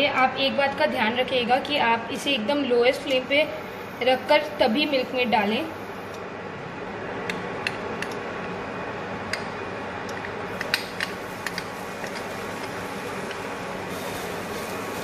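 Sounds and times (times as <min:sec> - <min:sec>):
cooling fan humming: 0:00.0 - 0:15.0.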